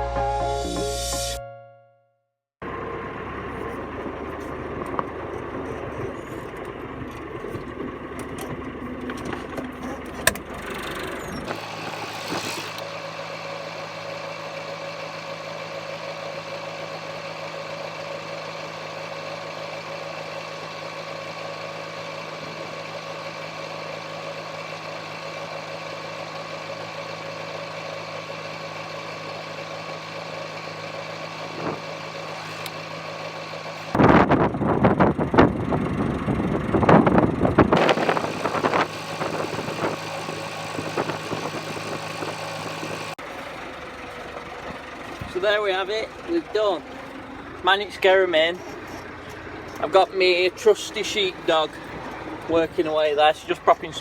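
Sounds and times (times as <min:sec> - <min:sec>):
vehicle engine running: 0:02.6 - 0:54.0.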